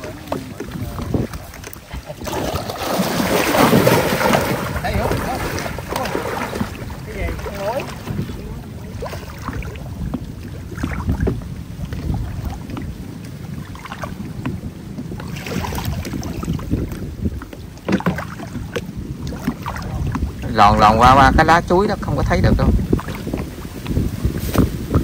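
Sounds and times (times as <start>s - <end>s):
water sloshing and splashing: 0.0s - 25.0s
wind rumble on microphone: 0.0s - 25.0s.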